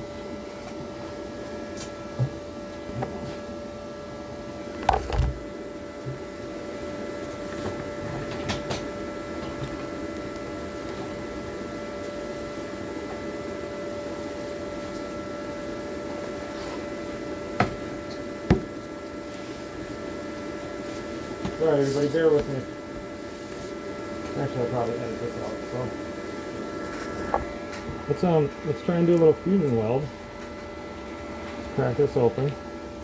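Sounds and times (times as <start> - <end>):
welder humming with electrical whine: 0.0 - 33.0.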